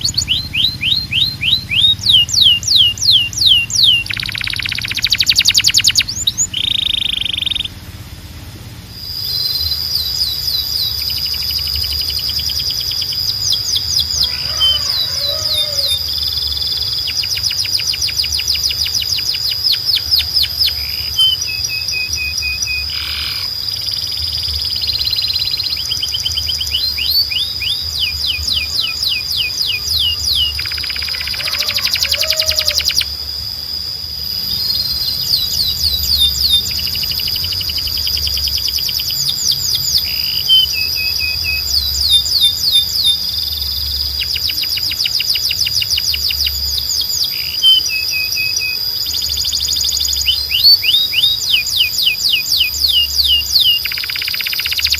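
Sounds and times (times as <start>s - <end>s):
canary singing trills: 0.0s - 54.9s
steady high tone: 8.8s - 54.9s.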